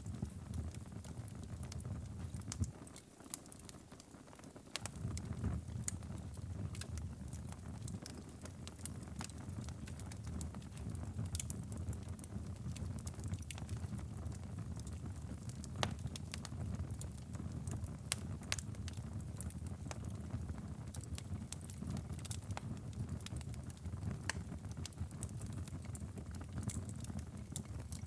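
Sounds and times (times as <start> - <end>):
low fire rumble: 0.0 - 28.0
wood fire crackling: 0.0 - 28.0.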